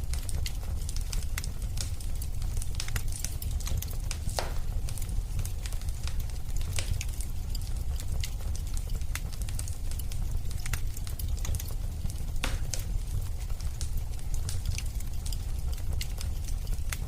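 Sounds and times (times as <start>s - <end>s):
fire popping and snapping: 0.0s - 17.0s
low rumble of flames: 0.0s - 17.0s.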